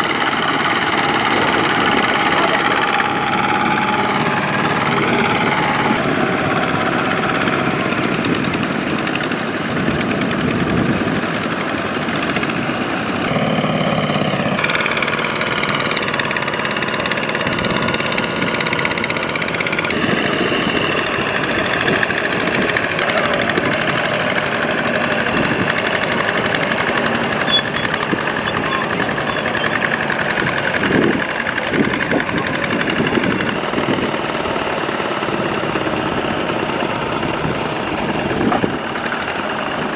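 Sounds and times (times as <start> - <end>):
tractor engines running hard: 0.0 - 39.9.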